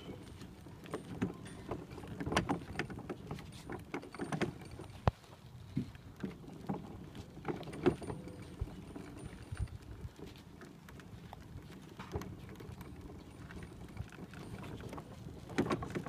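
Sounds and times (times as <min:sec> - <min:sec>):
plastic wagon rattling on asphalt: 0:00.0 - 0:16.0.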